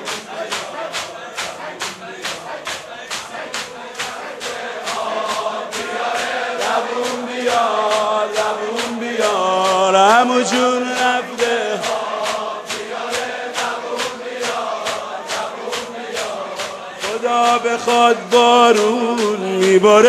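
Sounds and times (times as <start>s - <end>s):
men chanting in unison: 0.0s - 20.0s
rhythmic chest-beating slaps: 0.0s - 20.0s.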